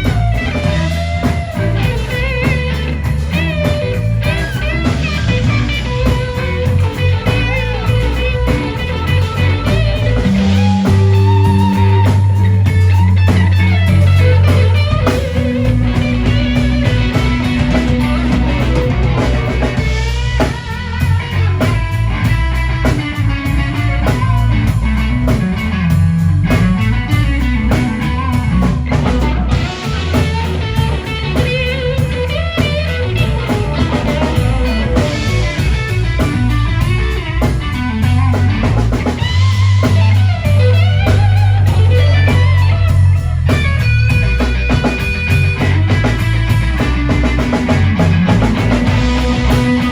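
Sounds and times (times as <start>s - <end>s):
blues rock band playing: 0.0s - 49.9s
electric guitar solo: 0.0s - 49.9s.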